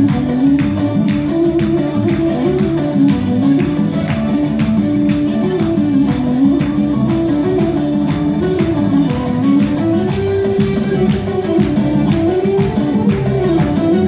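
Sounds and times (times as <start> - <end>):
folk dance music: 0.0 - 14.0.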